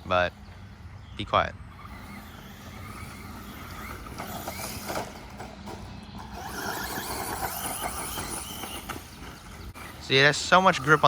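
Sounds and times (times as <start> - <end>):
electric motor whining: 1.7 - 11.0.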